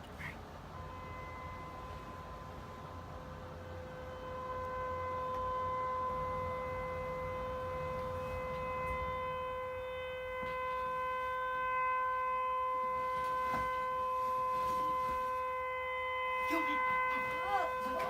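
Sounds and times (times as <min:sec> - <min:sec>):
steady siren tone: 0:00.0 - 0:18.0.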